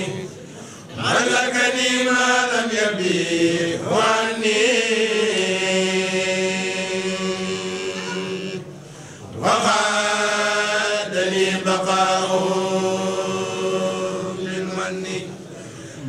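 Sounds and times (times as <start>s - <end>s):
voices chanting on long notes: 0.0s - 16.0s.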